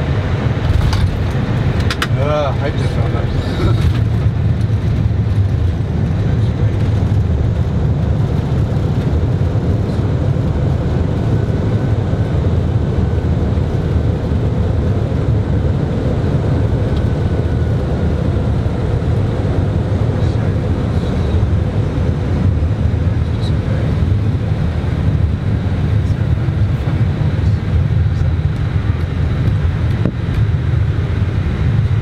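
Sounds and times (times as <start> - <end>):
airliner rumble on runway: 0.0 - 32.0.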